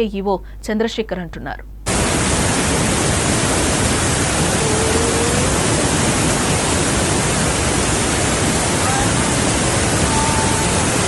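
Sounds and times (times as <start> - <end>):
floodwater rushing roar: 1.8 - 11.0.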